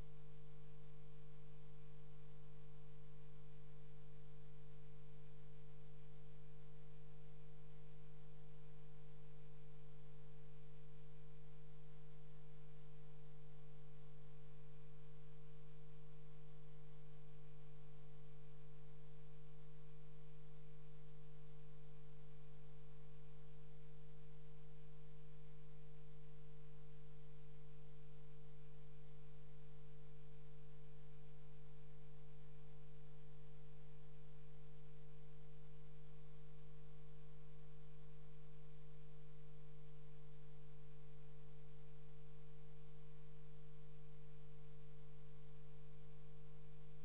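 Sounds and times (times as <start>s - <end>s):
faint high whine: 0.0s - 47.0s
steady electrical hum: 0.0s - 47.0s.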